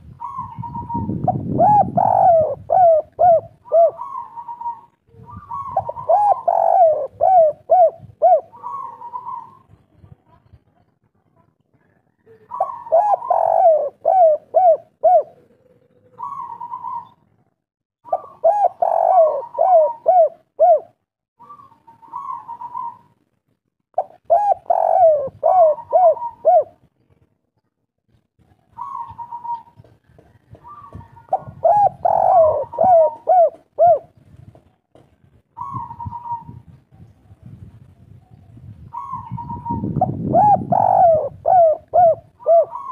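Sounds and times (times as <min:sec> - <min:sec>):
dove cooing: 0:00.0 - 0:09.9, 0:12.1 - 0:17.2, 0:18.0 - 0:23.2, 0:24.0 - 0:26.8, 0:28.7 - 0:34.2, 0:35.6 - 0:37.6, 0:38.8 - 0:42.9.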